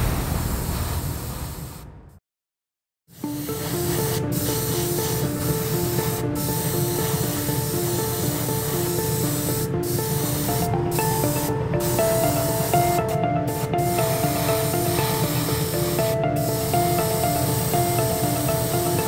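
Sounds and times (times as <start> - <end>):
airbrush spraying hiss: 3.1 - 19.0
background music: 3.2 - 19.0.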